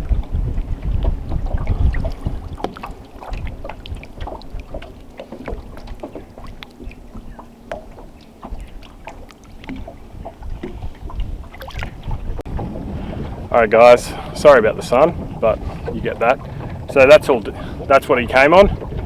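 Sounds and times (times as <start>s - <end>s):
water splashing around boat: 0.0s - 19.0s
wind buffeting microphone: 0.0s - 19.0s.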